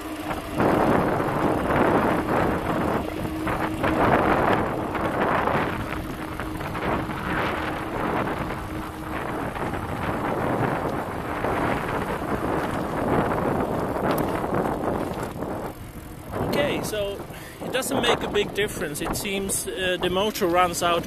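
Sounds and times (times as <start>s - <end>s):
bicycle tyre noise: 0.0s - 21.0s
hub motor whine: 0.0s - 21.0s
wind buffeting microphone: 0.0s - 21.0s.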